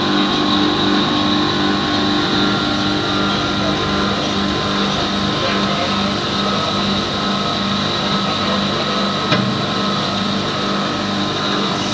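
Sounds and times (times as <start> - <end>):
grinding mill running: 0.0 - 11.9.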